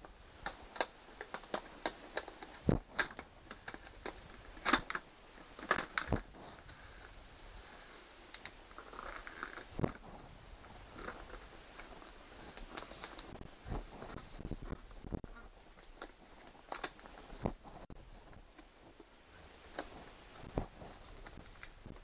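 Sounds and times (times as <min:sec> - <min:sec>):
vinyl wallpaper crackling and rustling: 0:00.0 - 0:22.0.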